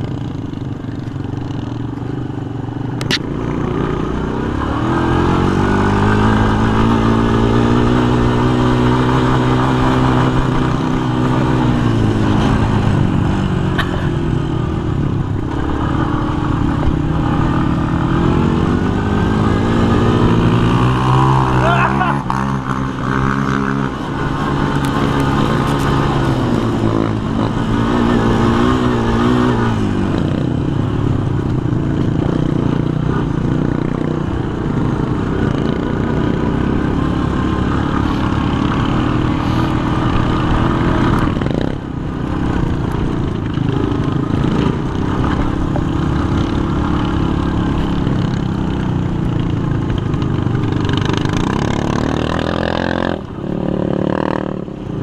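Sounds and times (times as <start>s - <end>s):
quad engine under throttle: 0.0s - 55.0s.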